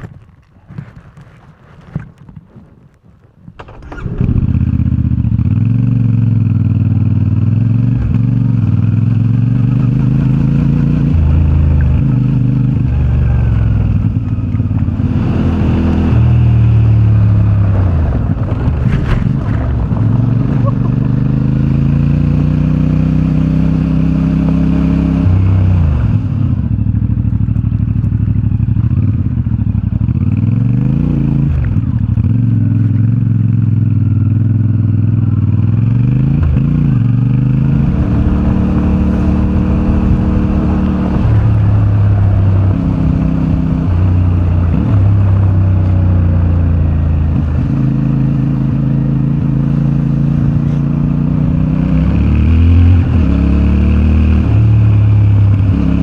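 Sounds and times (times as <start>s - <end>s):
motorcycle engine running: 3.5s - 56.0s.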